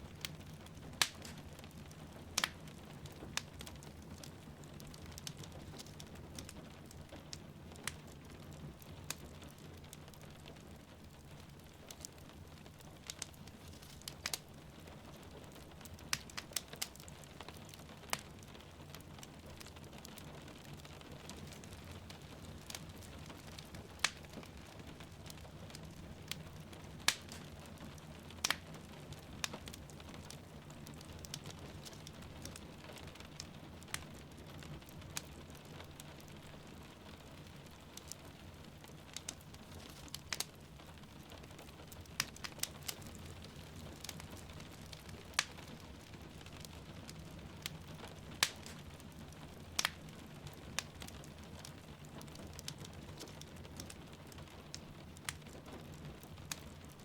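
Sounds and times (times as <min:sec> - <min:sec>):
rain: 0:00.0 - 0:57.0
wood fire crackling and popping: 0:00.0 - 0:57.0.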